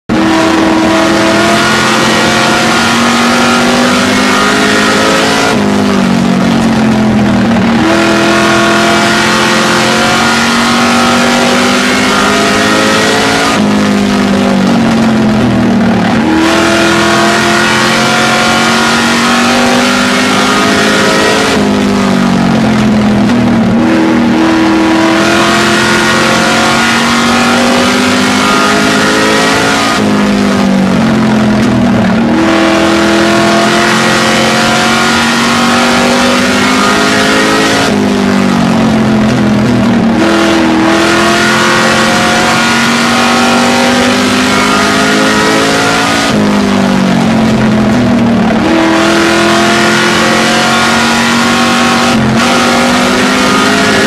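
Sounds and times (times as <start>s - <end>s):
race truck engine at high revs: 0.0s - 54.0s.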